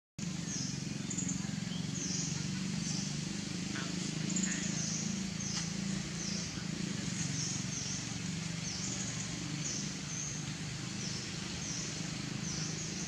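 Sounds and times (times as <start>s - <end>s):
low hum and hiss: 0.2s - 13.0s.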